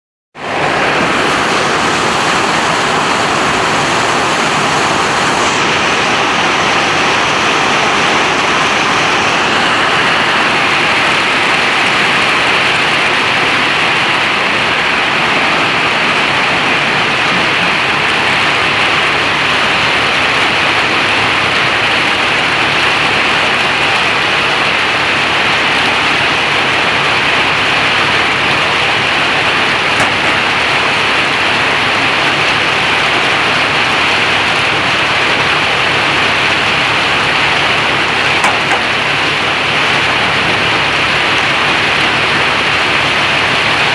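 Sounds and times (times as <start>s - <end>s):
hail and rain pounding: 0.4s - 43.9s.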